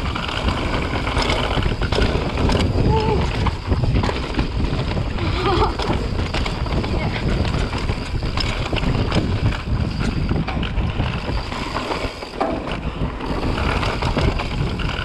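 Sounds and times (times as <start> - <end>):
bike rattles and knocks: 0.0 - 15.0
tyres rolling on dirt trail: 0.0 - 15.0
wind buffeting microphone: 0.0 - 15.0.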